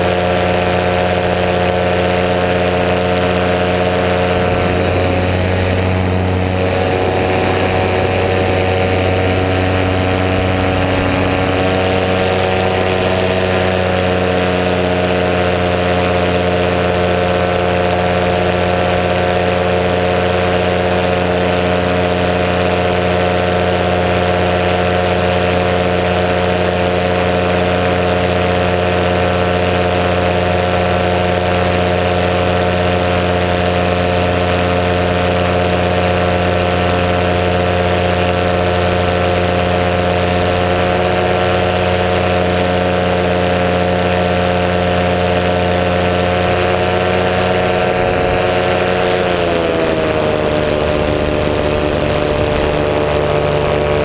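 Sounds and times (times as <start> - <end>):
aircraft engine humming: 0.0 - 54.0.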